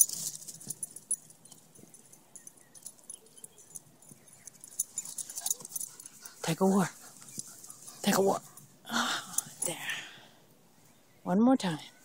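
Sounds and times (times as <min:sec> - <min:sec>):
dog collar tags jingling: 0:00.0 - 0:09.8.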